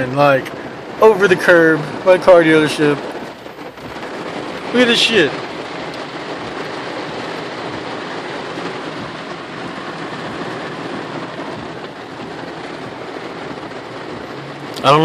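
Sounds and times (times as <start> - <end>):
heavy rain: 0.0 - 15.0
tyres on flooded road: 0.0 - 15.0.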